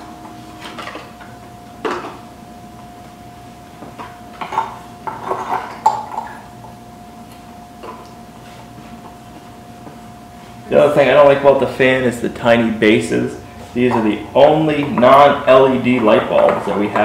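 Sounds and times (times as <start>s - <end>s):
steady faint hum: 0.0s - 17.0s.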